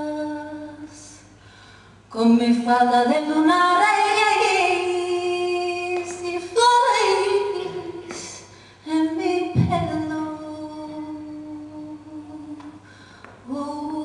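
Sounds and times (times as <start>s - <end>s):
woman singing unaccompanied: 0.0s - 1.2s, 2.1s - 12.8s, 13.4s - 14.0s.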